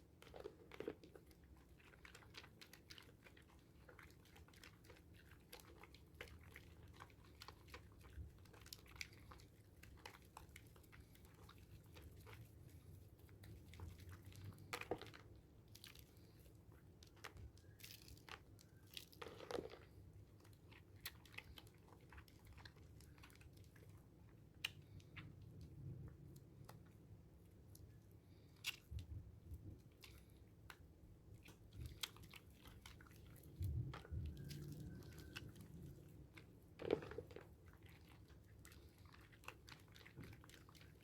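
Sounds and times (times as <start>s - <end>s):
soap lathering crackling: 0.0s - 26.9s, 29.8s - 41.0s.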